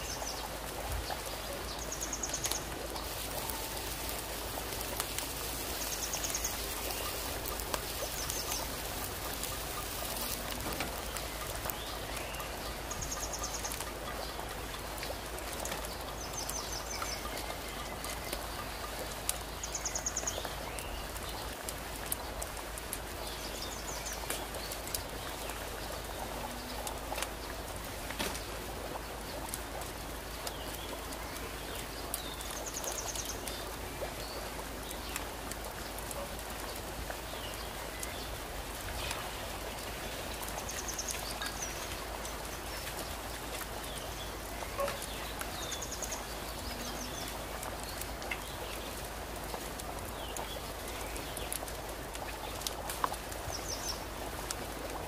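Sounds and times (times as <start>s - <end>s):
crackling hiss: 0.0s - 55.0s.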